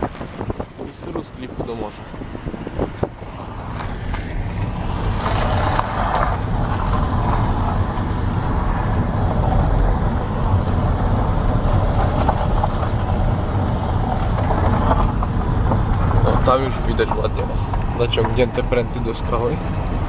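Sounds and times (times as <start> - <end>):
car driving slowly: 0.0 - 20.0.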